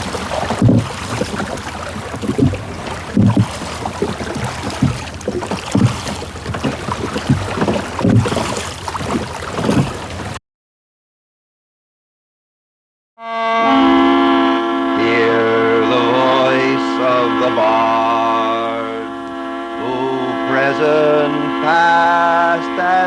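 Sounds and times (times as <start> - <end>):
water lapping around a boat: 0.0 - 10.4, 14.3 - 23.0.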